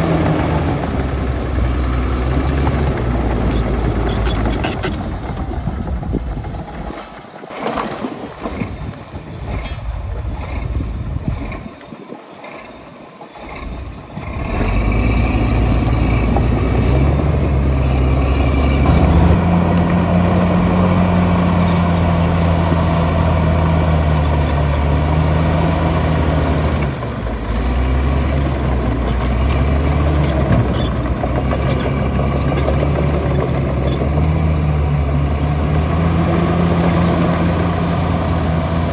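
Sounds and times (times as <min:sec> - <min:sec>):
heavy diesel engine: 0:00.0 - 0:11.7, 0:13.3 - 0:38.9.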